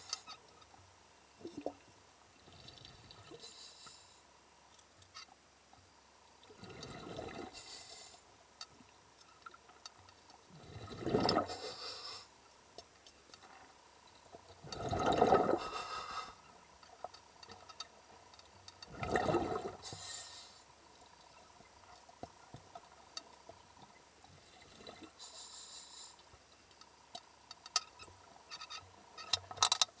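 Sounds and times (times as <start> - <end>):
faint underwater noise: 0.0 - 29.8
water swishing and bubbling: 0.0 - 30.0.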